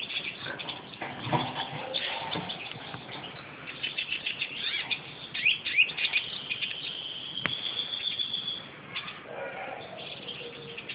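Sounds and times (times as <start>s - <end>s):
finch chirping: 0.0s - 10.9s.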